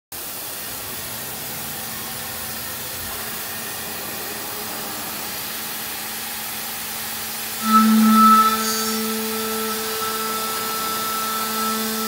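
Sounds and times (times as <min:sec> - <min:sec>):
machine running with hiss: 0:00.2 - 0:12.0.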